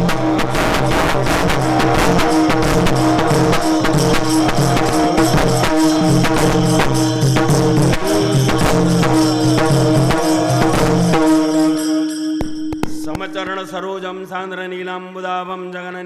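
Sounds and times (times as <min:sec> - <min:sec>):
drum beats: 0:00.0 - 0:13.8
steady held notes: 0:00.0 - 0:14.0.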